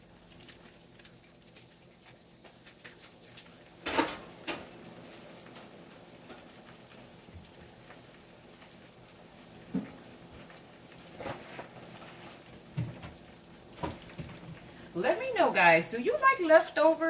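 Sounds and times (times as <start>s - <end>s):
wings frying in oil: 0.0s - 17.0s.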